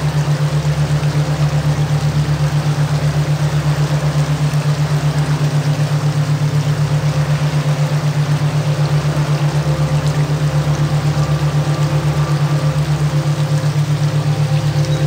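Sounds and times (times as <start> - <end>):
low throbbing binaural tone: 0.0 - 15.0
running water hiss: 0.0 - 15.0.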